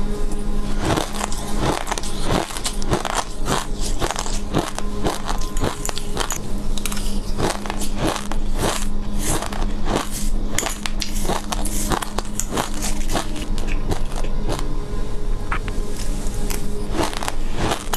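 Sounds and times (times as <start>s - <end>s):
seeds being chewed crunching: 0.7s - 14.7s, 15.5s - 17.9s.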